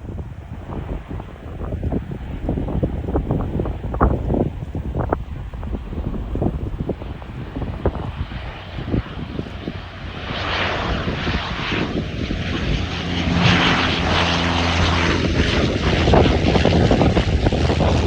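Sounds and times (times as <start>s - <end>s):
steady propeller hum: 0.0s - 18.0s
turboprop plane landing: 0.0s - 18.0s.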